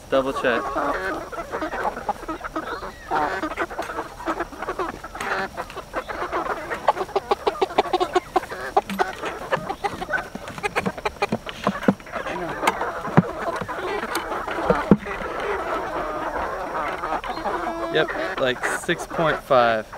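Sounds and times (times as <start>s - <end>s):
chickens calling and chattering: 0.0s - 19.9s.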